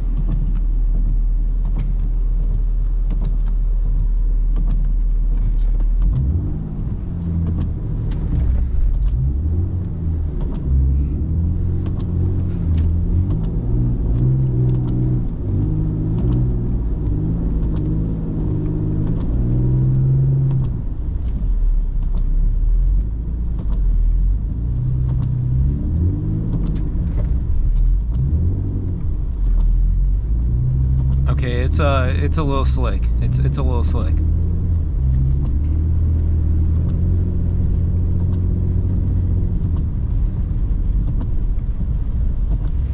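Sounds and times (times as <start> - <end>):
car engine revving through gears: 0.0 - 42.9.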